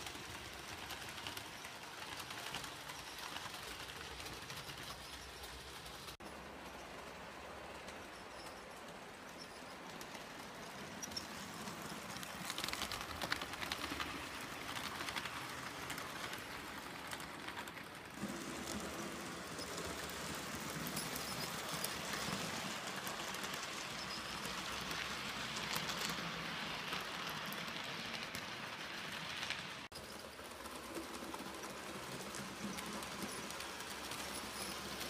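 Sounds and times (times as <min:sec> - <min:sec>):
model train wheels clicking: 0:00.0 - 0:35.0.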